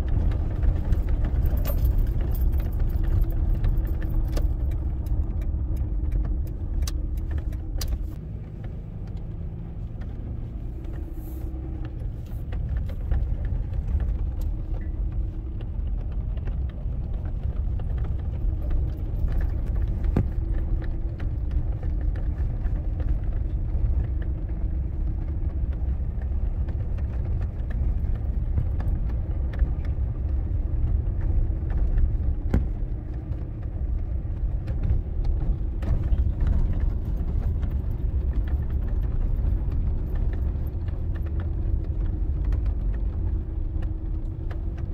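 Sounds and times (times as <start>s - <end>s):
car engine and tyres on brick: 0.0s - 44.9s
light clicks and rattles: 0.0s - 44.9s.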